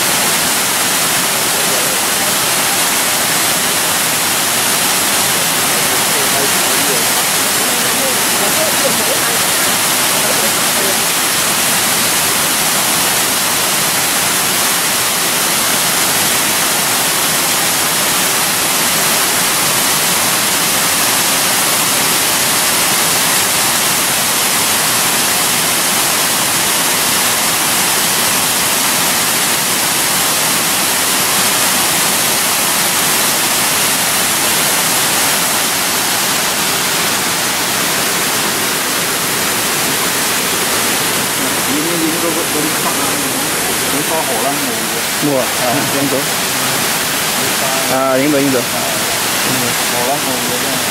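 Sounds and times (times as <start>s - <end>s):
waterfall splashing into a pool: 0.0s - 50.9s.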